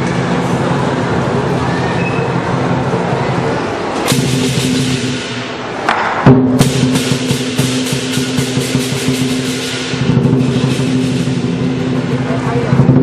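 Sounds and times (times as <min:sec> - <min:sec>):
drum cymbals and gong percussion: 0:00.0 - 0:13.0.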